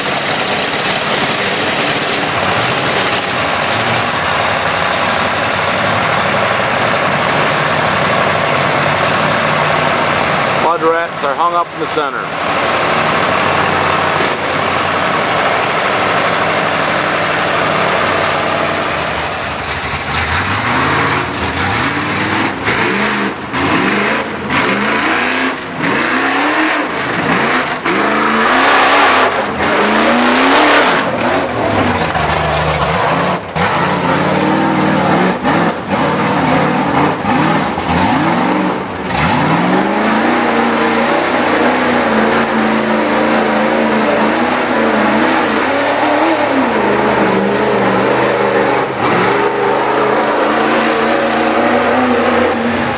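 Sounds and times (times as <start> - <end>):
truck engine revving: 0.0 - 52.9.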